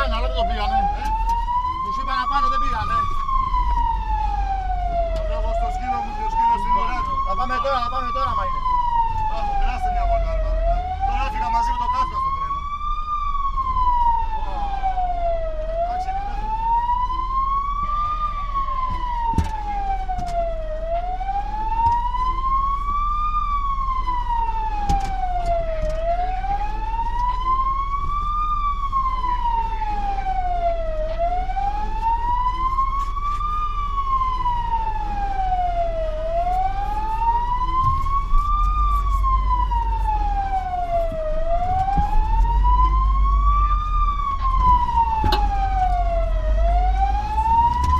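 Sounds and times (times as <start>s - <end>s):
siren wailing: 0.0s - 47.9s
truck engine running: 0.0s - 47.9s.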